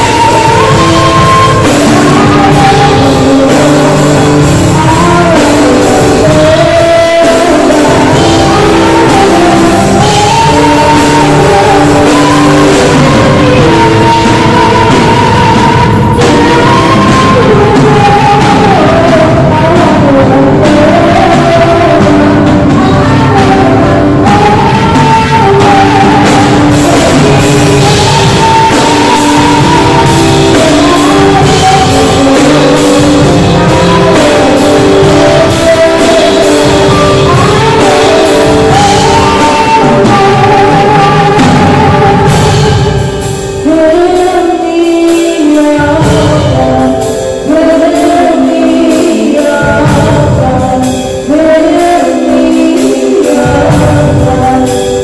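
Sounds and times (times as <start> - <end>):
drum kit: 0.0 - 55.0
electronic keyboard chords: 0.0 - 55.0
woman singing into microphone: 0.0 - 55.0.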